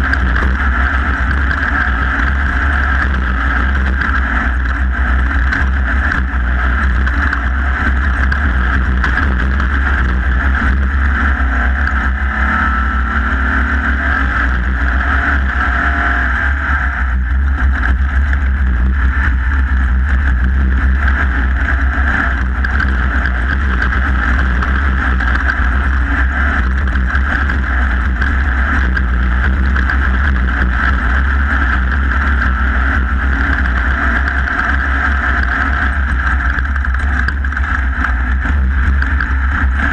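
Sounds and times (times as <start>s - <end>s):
low rumble of wind and ground: 0.0s - 39.9s
off-road vehicle engine: 0.0s - 39.9s.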